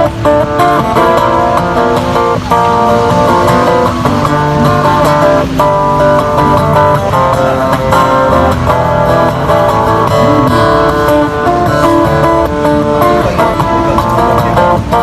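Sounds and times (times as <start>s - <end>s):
fingerstyle acoustic guitar: 0.0s - 15.0s.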